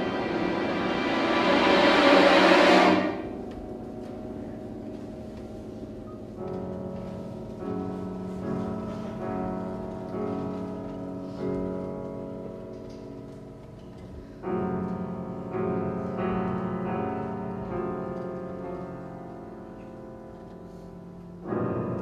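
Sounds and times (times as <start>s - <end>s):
piano and string orchestra: 0.0s - 22.0s
soft piano chords: 0.0s - 22.0s.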